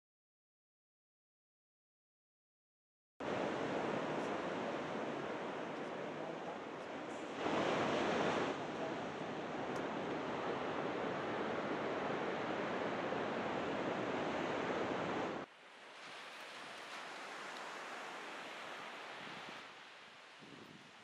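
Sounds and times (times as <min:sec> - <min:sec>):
surf breaking on beach: 0:03.2 - 0:20.4
wind: 0:03.2 - 0:21.0.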